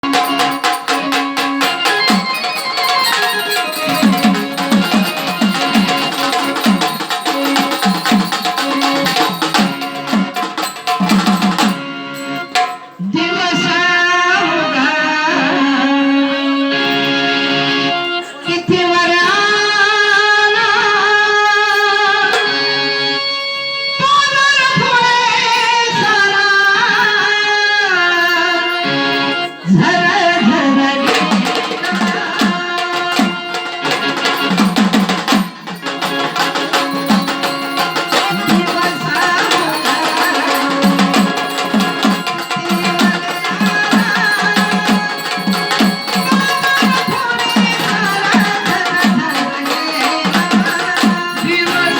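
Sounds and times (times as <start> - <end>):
drums and percussion: 0.0 - 13.7, 19.1 - 23.0, 24.0 - 51.9
electronic organ melody: 0.0 - 13.7, 16.0 - 19.7, 25.0 - 30.5, 31.7 - 51.9.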